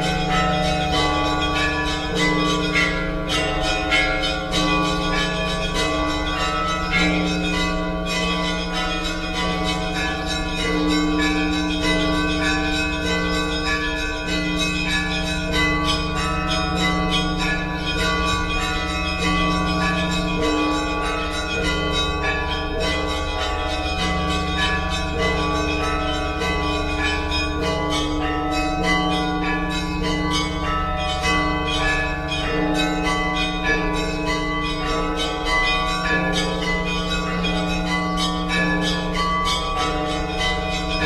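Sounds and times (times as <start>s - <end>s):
deep large bells ringing: 0.0s - 41.0s
small church bells ringing quickly: 0.0s - 41.0s.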